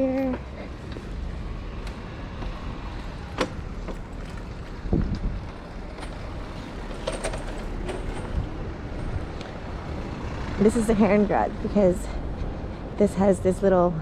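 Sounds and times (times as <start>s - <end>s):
wind and road rumble: 0.0s - 14.0s.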